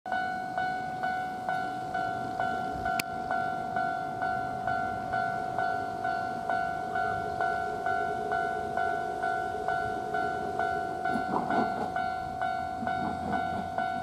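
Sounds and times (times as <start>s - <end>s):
level crossing warning bell: 0.1s - 14.0s.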